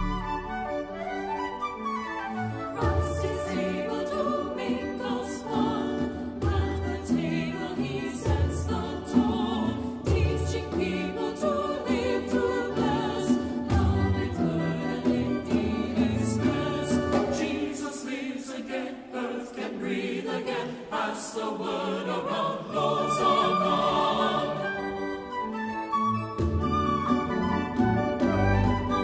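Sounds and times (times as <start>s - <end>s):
instrumental accompaniment: 0.0s - 17.9s, 22.3s - 29.0s
choir singing a hymn: 2.3s - 25.6s.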